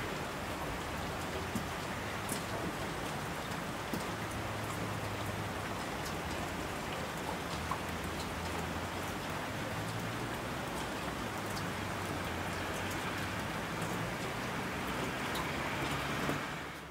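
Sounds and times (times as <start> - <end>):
heavy rain falling: 0.0 - 16.9
raindrop ticks: 1.1 - 16.9.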